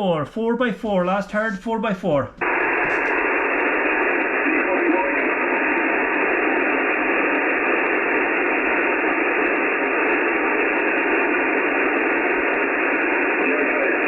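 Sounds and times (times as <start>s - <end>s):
radio static hiss: 0.4s - 14.0s.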